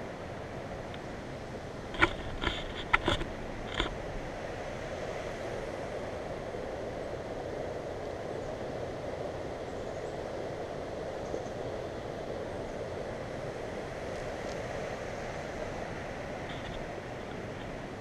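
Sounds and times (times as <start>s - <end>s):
wind and tyres rushing: 0.0s - 18.0s.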